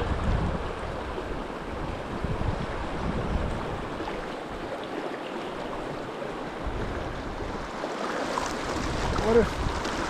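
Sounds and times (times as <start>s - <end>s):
wind buffeting microphone: 0.0s - 4.8s, 5.8s - 7.7s, 8.6s - 10.0s
river water rushing: 0.0s - 10.0s.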